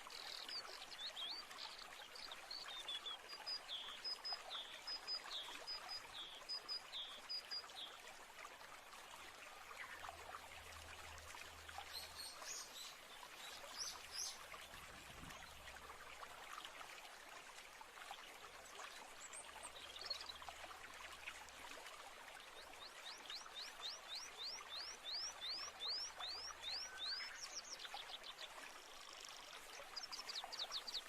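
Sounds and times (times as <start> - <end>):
stream trickling: 0.0 - 31.0.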